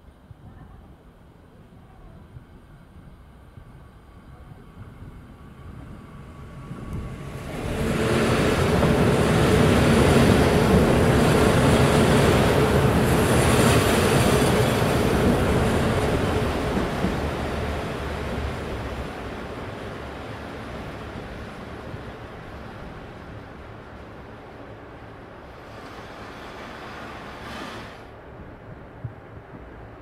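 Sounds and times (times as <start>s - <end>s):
train passing: 2.7s - 30.0s.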